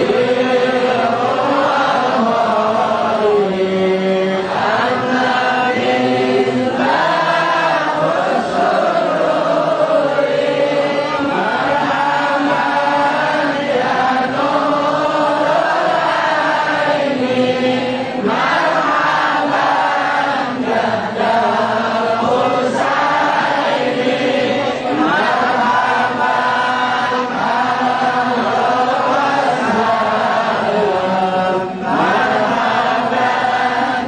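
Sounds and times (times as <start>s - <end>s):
crowd of men chanting: 0.0s - 34.0s.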